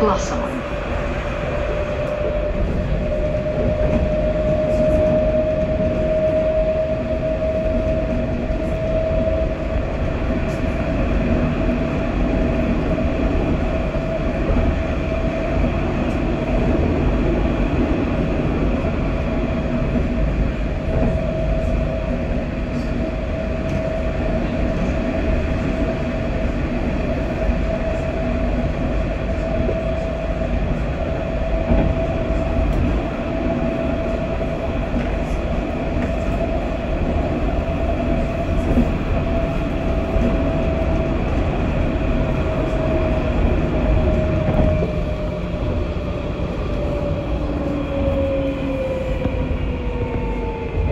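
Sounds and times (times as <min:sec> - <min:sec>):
tram wheels rumbling on rails: 0:00.0 - 0:50.9.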